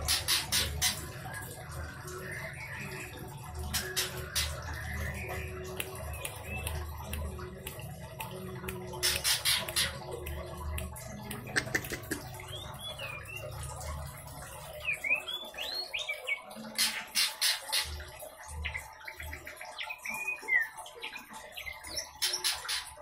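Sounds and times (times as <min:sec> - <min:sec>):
songbird chirps: 0:00.1 - 0:23.0.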